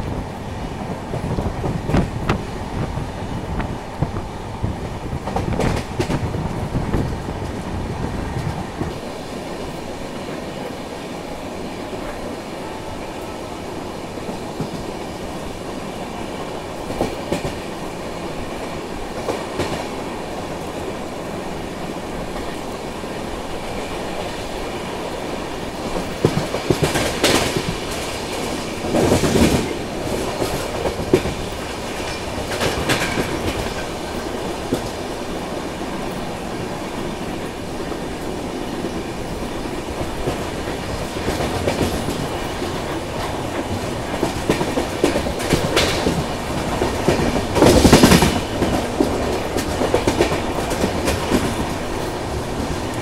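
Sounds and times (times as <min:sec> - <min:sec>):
train wheels rumbling and clattering: 0:00.0 - 0:53.0.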